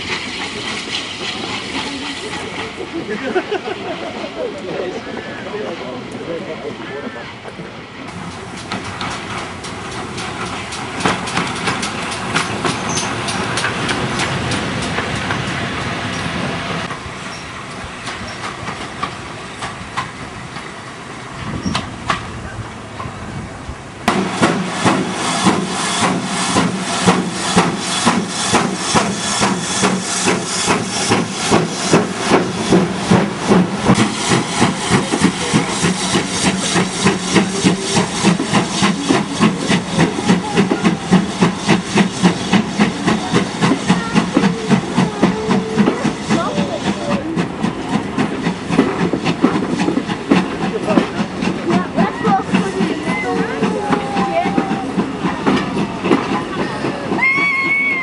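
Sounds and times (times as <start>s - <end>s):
passing train coaches rumbling: 0.0s - 58.0s
steam locomotive chuffing: 0.0s - 58.0s.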